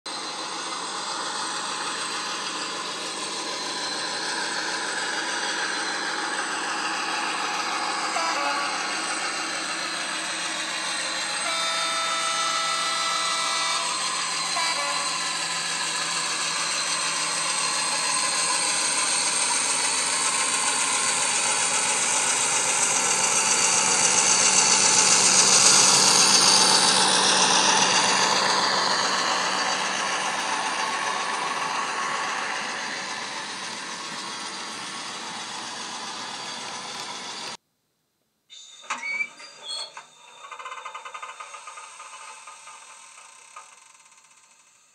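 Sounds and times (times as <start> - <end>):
diesel engine sound from small speaker: 0.1 - 37.6
model train running on track: 0.1 - 37.6, 38.8 - 44.9.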